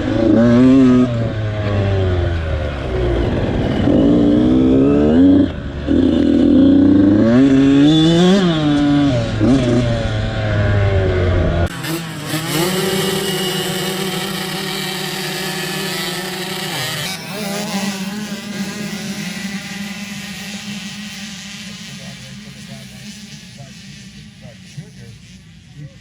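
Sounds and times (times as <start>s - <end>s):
dirt bike engines revving: 0.0s - 26.0s
steady engine note: 0.0s - 26.0s.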